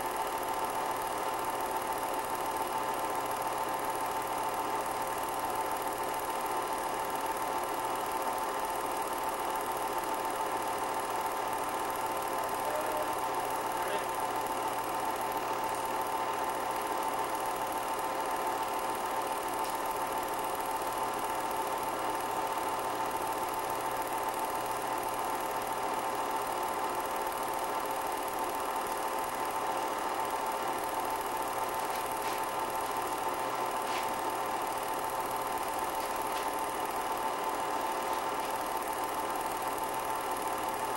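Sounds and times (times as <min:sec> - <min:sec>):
film projector whirring: 0:00.0 - 0:40.9.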